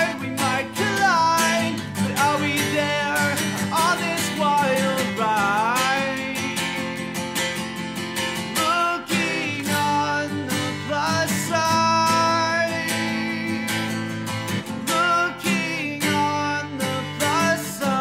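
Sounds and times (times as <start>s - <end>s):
song with strummed acoustic guitar: 0.0s - 18.0s.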